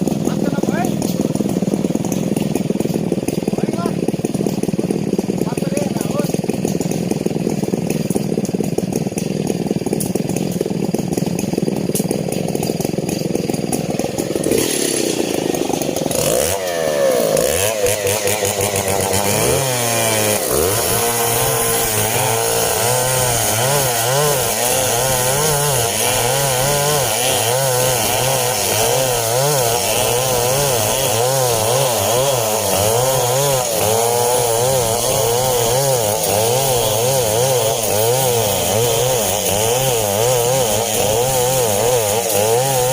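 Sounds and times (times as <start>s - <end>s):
chainsaw sawing a log: 0.0s - 42.9s.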